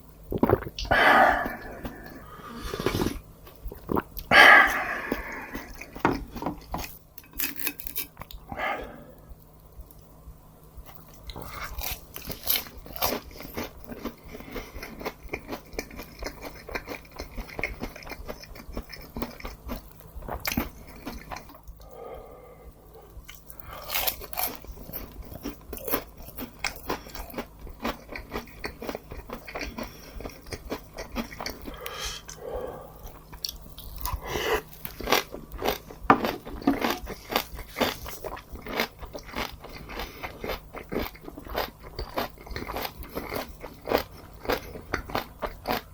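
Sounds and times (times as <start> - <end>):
person chewing crunchy food: 0.3 - 9.4, 10.8 - 45.9.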